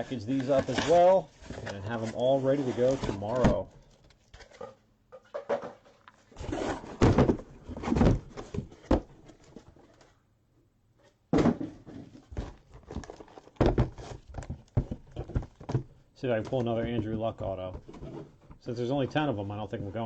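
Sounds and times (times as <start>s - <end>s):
cardboard knocks and scraping: 0.3s - 4.7s, 6.4s - 10.0s, 11.4s - 20.0s.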